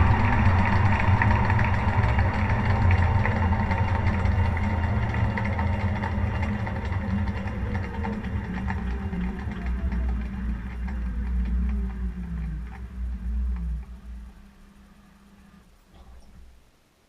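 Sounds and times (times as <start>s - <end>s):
washing machine motor and drum hum: 0.0s - 16.8s
faint clicks and rattles: 0.0s - 17.0s.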